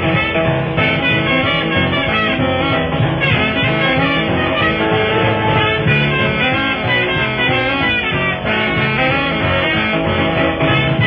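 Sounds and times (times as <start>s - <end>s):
instrumental rhythm and blues band: 0.0s - 11.0s.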